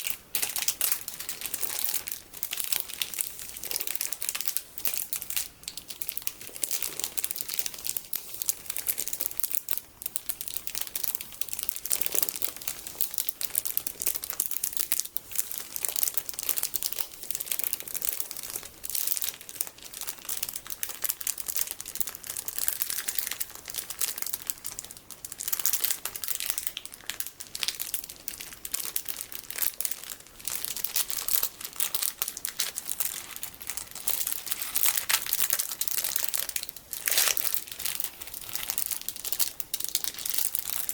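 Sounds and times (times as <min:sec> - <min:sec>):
plastic package crinkling: 0:00.0 - 0:40.9.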